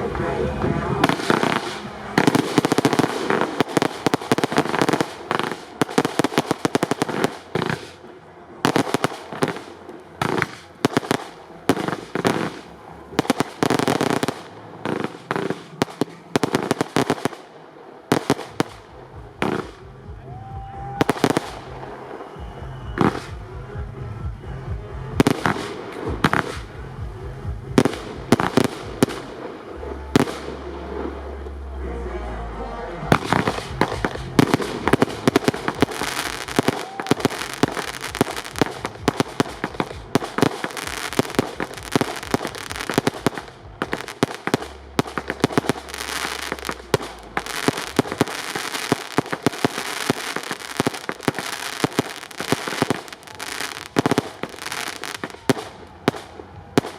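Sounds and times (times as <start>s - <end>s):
fireworks shots and crackling: 0.0s - 23.6s, 25.0s - 31.2s, 33.1s - 56.9s.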